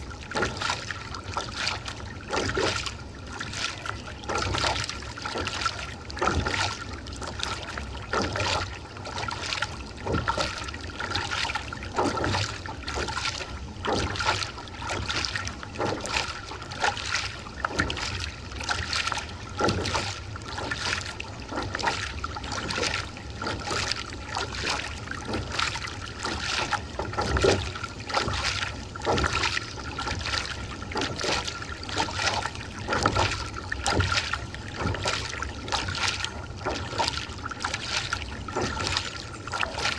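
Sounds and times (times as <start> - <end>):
paddle splashing into water: 0.0 - 39.9
water washing along hull: 0.0 - 39.9.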